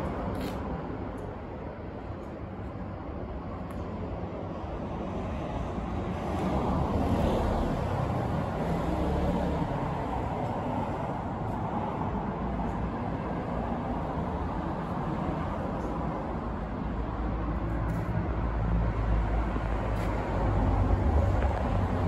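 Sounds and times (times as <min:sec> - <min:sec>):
low rumbling vehicle noise: 0:00.0 - 0:22.0.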